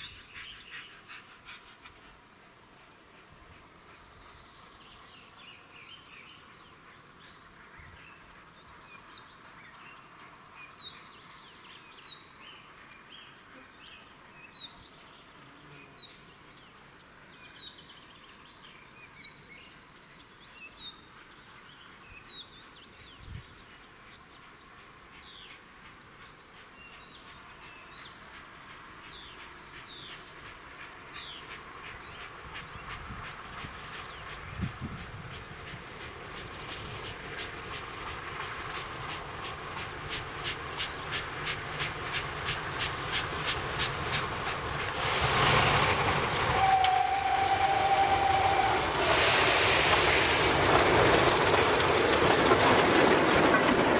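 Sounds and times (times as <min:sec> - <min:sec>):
approaching steam train: 0:00.0 - 0:53.9.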